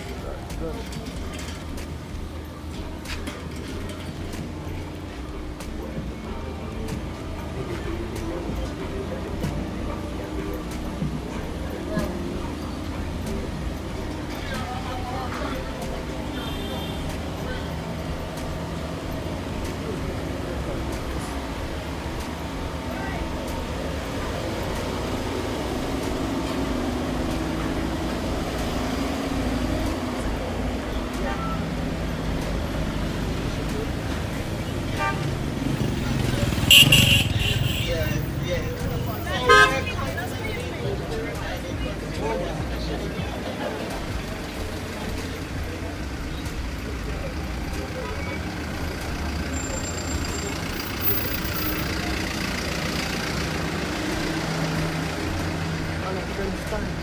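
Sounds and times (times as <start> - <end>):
engines idling in traffic: 0.0 - 57.0.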